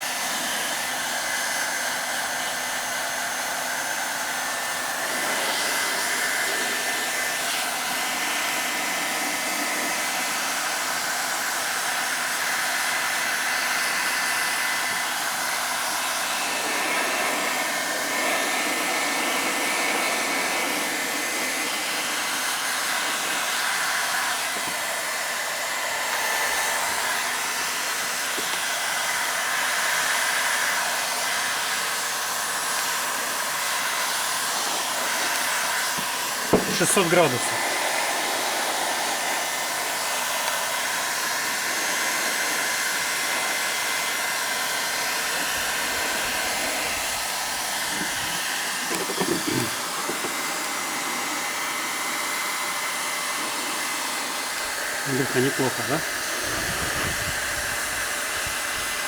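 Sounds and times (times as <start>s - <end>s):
heat gun blowing air: 0.0s - 59.0s.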